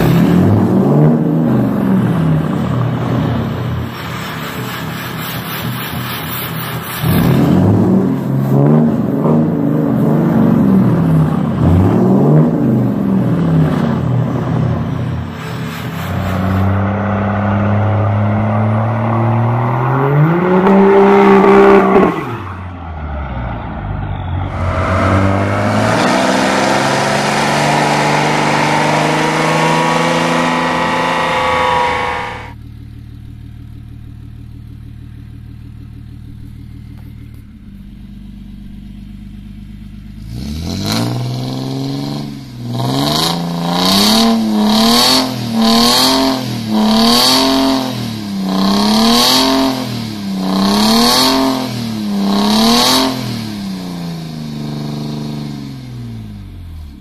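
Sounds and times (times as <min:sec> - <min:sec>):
diesel engine revving in blips: 0:00.0 - 0:34.8, 0:39.0 - 0:57.0
diesel engine revving up: 0:00.0 - 0:37.4, 0:38.6 - 0:57.0.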